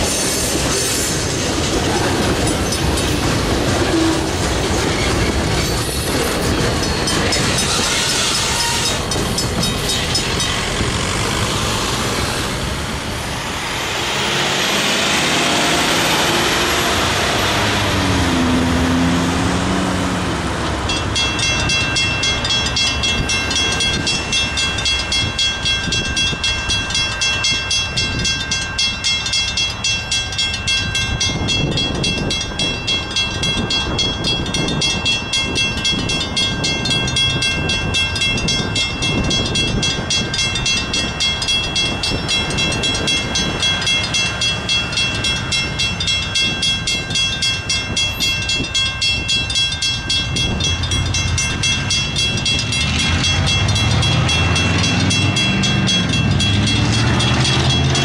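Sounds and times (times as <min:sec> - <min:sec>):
railroad crossing bell ringing: 0:00.0 - 0:58.0.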